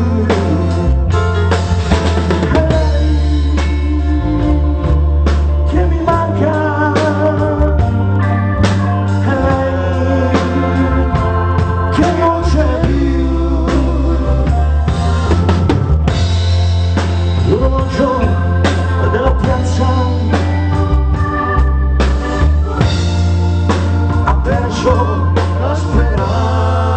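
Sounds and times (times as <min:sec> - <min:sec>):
bass line: 0:00.0 - 0:26.9
drum kit: 0:00.0 - 0:26.9
keyboard or organ chords: 0:00.0 - 0:26.9
melodic lead line: 0:00.0 - 0:26.9.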